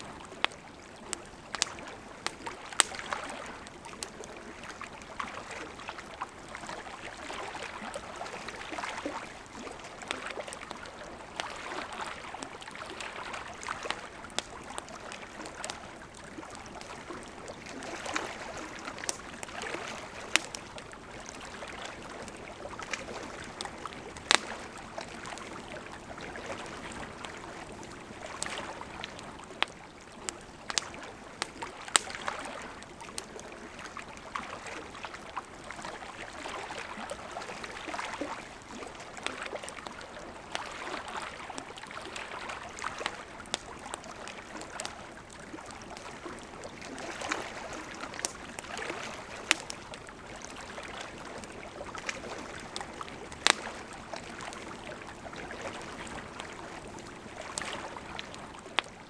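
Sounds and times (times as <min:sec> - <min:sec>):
campfire flames hissing: 0:00.1 - 0:05.5, 0:06.3 - 0:33.9, 0:42.6 - 0:58.1
burning wood crackling and popping: 0:00.1 - 0:34.0, 0:37.6 - 0:59.0.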